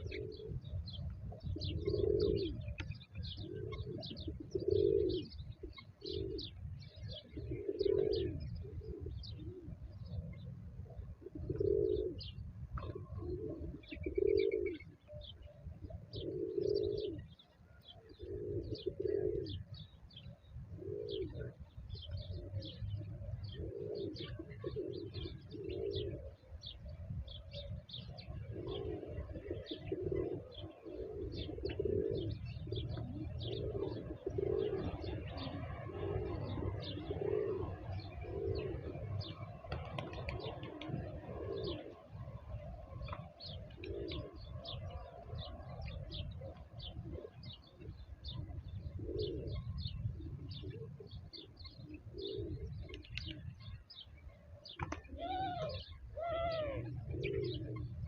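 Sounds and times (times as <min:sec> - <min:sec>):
pigeons cooing: 0:00.0 - 0:58.0
small birds chirping: 0:00.0 - 0:58.0.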